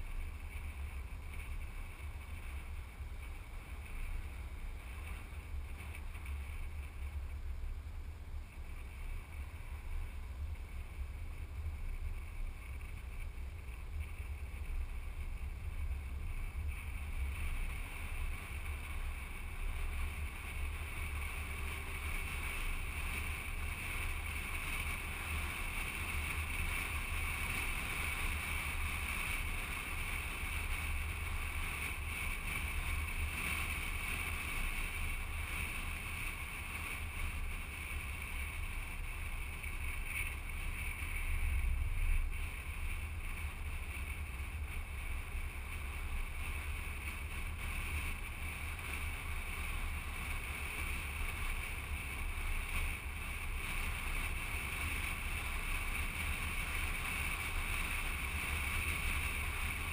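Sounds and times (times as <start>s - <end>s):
vehicle road rumble: 0.0s - 59.9s.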